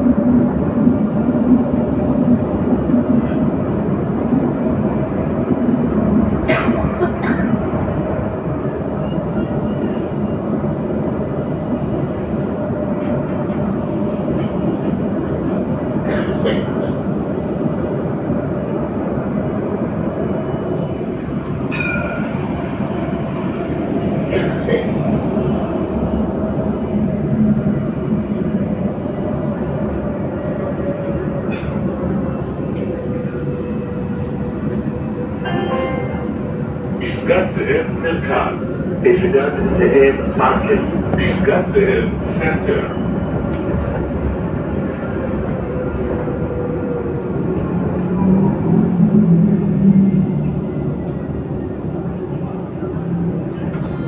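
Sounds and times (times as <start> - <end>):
tram running rumble: 0.0 - 54.0.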